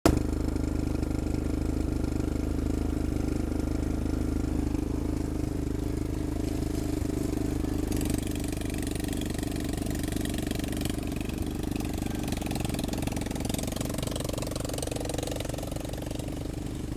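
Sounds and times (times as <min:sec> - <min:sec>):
vehicle engine running steadily: 0:00.0 - 0:16.9.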